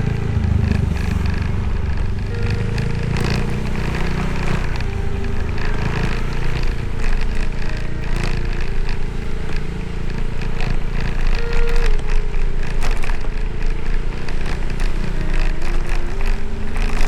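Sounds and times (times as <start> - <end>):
clicks and rattles: 0.0 - 17.0
motorcycle engine running: 0.0 - 17.0
wind and road noise: 0.0 - 17.0.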